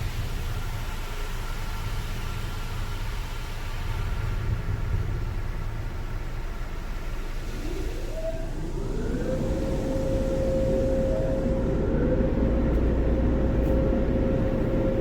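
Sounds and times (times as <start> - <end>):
car wash dryer blowers whine: 0.0 - 15.0.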